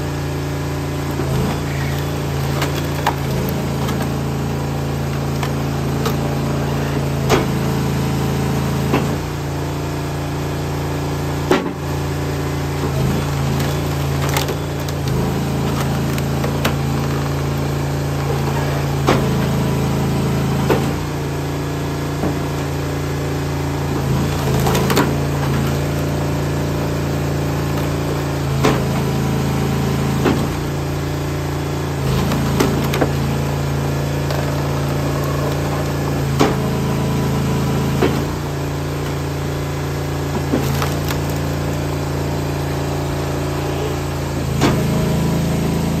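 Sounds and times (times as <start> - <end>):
log splitter engine humming: 0.0 - 46.0
wood cracking as it splits: 0.2 - 7.8, 11.3 - 21.3, 22.2 - 43.4.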